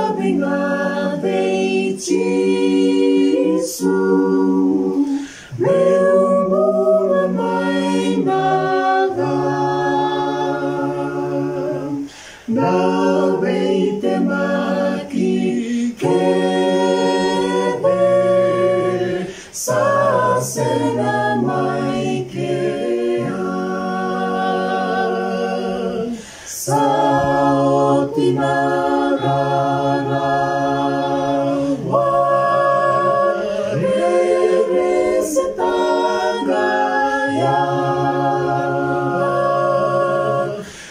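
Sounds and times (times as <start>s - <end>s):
group singing a hymn a cappella: 0.0s - 40.9s.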